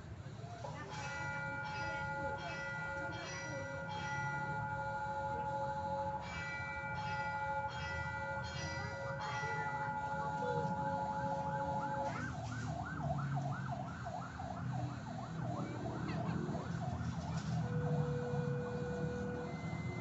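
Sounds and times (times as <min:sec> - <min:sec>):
level-crossing warning bell ringing: 0:00.0 - 0:20.0.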